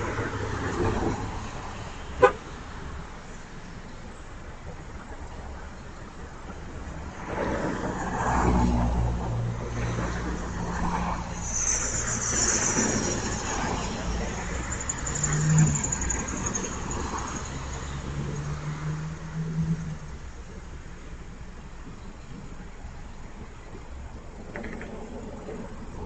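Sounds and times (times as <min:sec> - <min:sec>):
cars passing: 0:00.0 - 0:26.0.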